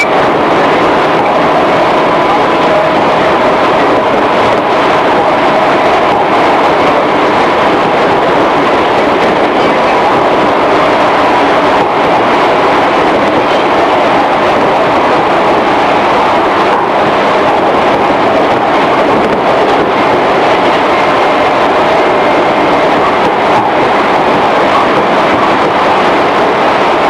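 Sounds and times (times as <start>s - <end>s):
electric train running: 0.0s - 27.0s.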